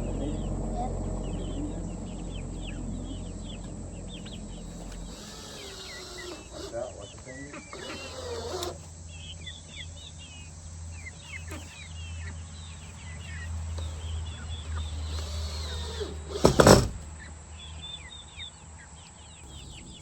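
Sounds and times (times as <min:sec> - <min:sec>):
generator humming: 0:00.0 - 0:18.2, 0:19.0 - 0:20.0
birds chirping: 0:00.0 - 0:20.0.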